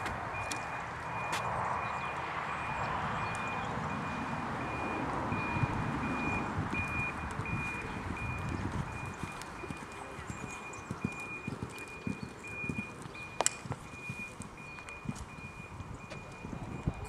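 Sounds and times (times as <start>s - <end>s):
reversing alarm beeping: 0.3s - 17.0s.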